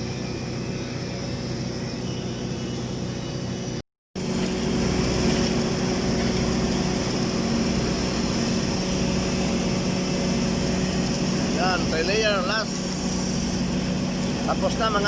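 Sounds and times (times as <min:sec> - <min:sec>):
steady low hum: 0:00.0 - 0:15.0
welding machine drone and hiss: 0:00.0 - 0:15.0.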